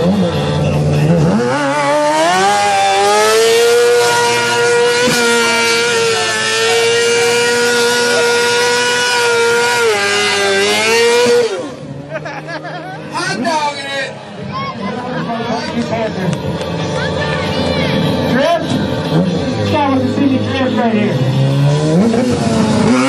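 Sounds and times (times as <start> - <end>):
motorcycle engine revving: 0.0 - 12.6, 16.4 - 23.0.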